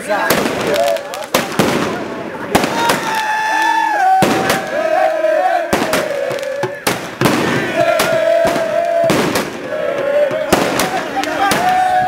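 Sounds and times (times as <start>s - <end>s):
crowd cheering and shouting: 0.0s - 1.4s, 2.3s - 12.0s
firecrackers banging: 0.1s - 12.0s.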